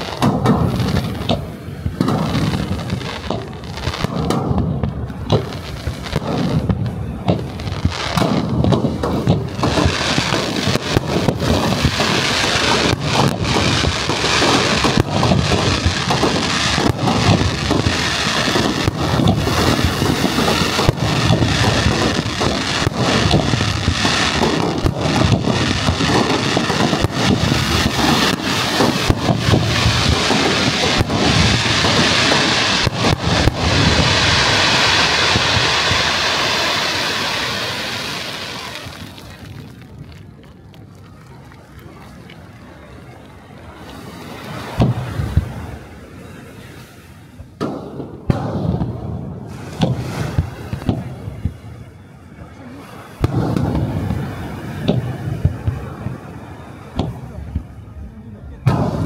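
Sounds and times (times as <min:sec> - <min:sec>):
fireworks bursting: 0:00.0 - 0:46.3, 0:47.2 - 0:59.0
continuous rumble: 0:00.0 - 0:59.0.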